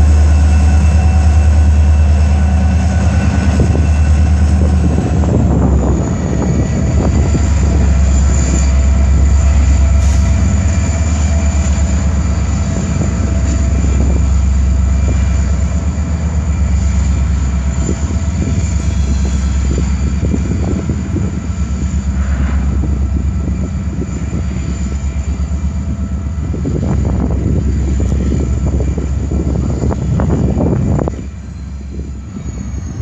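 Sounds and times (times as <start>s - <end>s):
locomotive engine rumble: 0.0s - 33.0s.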